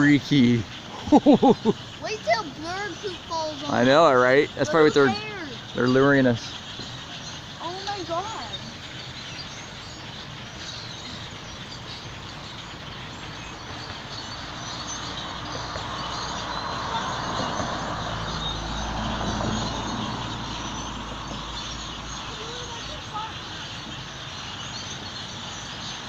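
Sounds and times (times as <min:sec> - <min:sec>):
flock of birds chirping: 0:00.0 - 0:26.0
vehicle rumble passing: 0:00.0 - 0:26.0.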